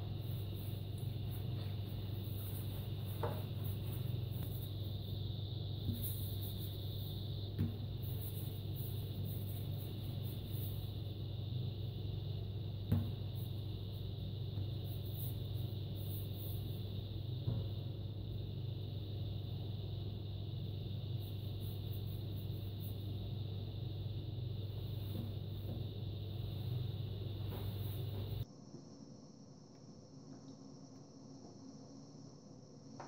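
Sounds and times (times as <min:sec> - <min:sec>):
high whine: 0:00.0 - 0:33.0.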